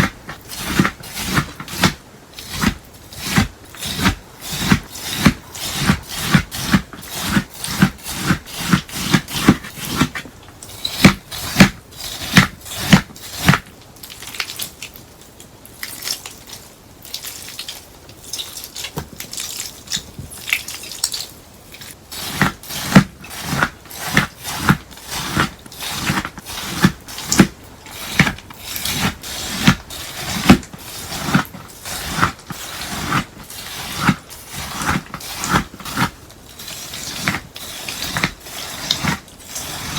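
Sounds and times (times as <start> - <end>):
crunchy slime squelching: 0.0 - 15.0, 15.7 - 39.9.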